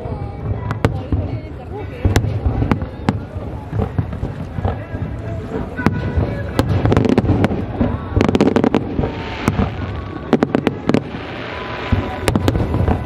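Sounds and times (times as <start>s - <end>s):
fireworks hissing crackle: 0.0s - 13.0s
firework shells bursting: 2.0s - 13.0s.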